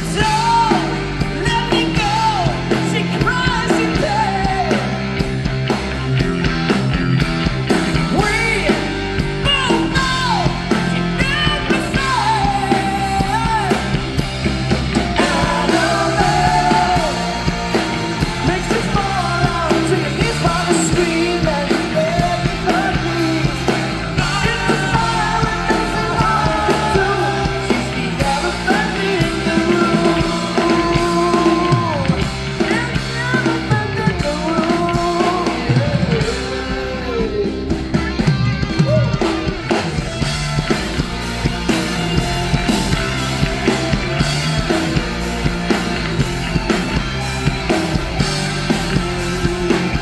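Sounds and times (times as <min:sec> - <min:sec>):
bass guitar: 0:00.0 - 0:50.0
bending lead guitar melody: 0:00.0 - 0:50.0
drums: 0:00.0 - 0:50.0
electric guitars: 0:00.0 - 0:50.0.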